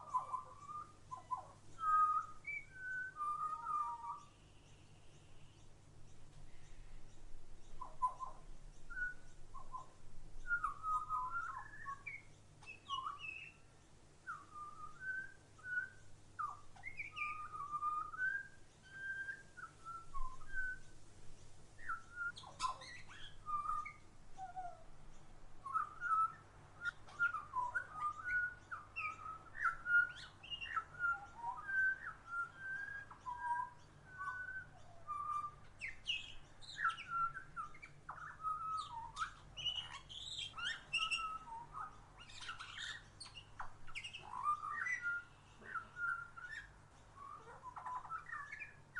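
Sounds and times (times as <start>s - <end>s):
songbirds singing and chirping: 0.0s - 48.9s.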